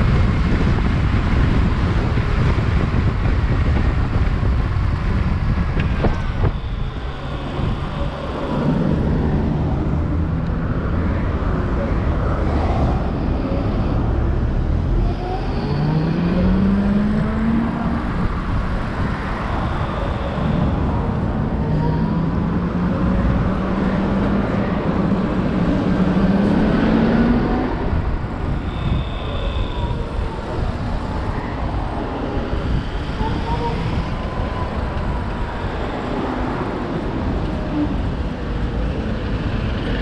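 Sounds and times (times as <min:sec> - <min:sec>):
traffic noise: 0:00.0 - 0:40.0
wind rumble on microphone: 0:00.0 - 0:40.0.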